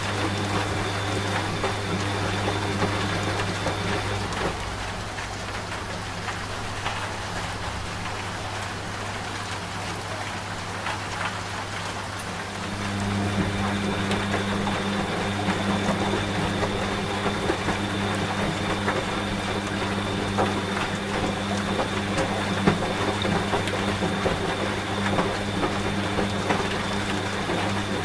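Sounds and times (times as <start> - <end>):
rain with drops: 0.0 - 28.0
washing machine humming: 0.0 - 28.0.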